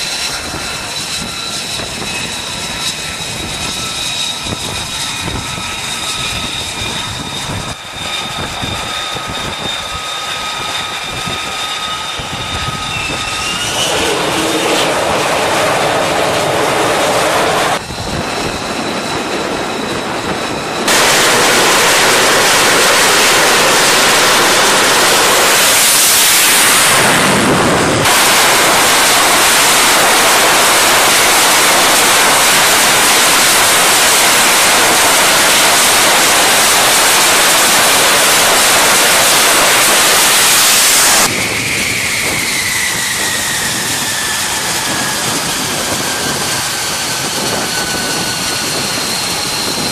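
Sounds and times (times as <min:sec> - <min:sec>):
jet engine roar: 0:00.0 - 0:49.9
jet engine whining: 0:00.0 - 0:49.9.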